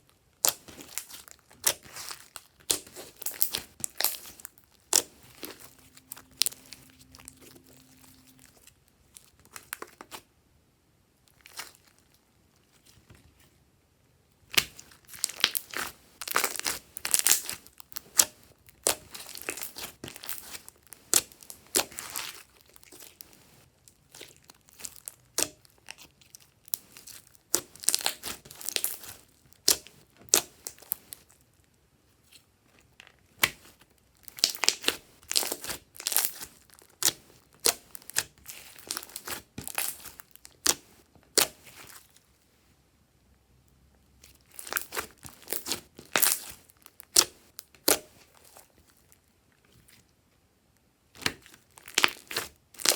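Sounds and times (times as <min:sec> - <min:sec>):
hands squishing slime: 0:00.4 - 0:10.2, 0:11.3 - 0:13.2, 0:14.4 - 0:31.4, 0:33.3 - 0:42.2, 0:44.2 - 0:49.1, 0:51.2 - 0:52.9.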